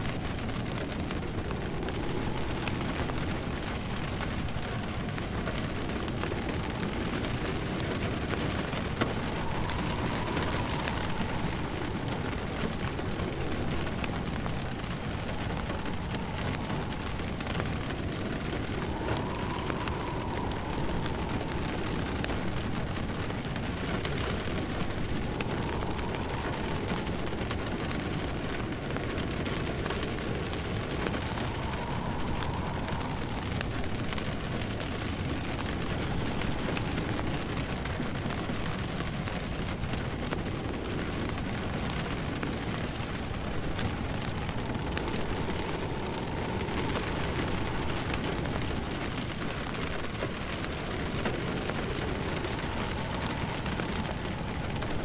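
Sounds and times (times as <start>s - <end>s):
fireplace crackling: 0.0s - 55.0s
rain pattering: 0.0s - 55.0s.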